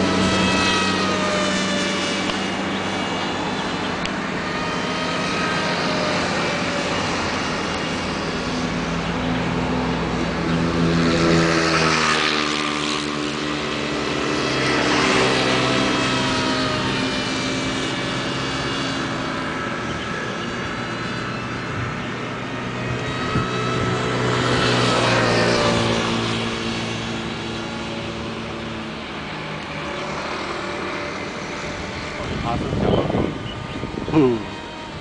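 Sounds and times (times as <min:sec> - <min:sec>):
model plane motor whine: 0:00.0 - 0:35.0.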